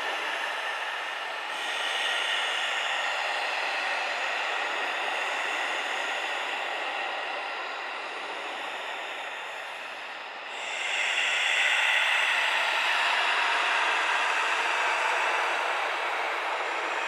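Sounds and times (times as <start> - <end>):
heavy human breathing: 0.0 - 17.0.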